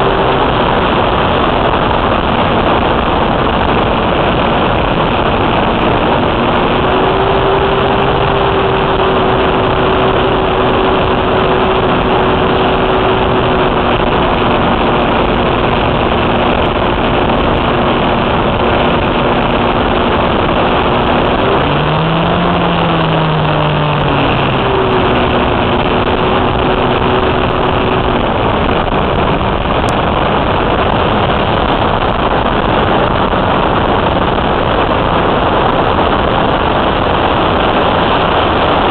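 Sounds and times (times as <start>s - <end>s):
wind rush: 0.0s - 38.9s.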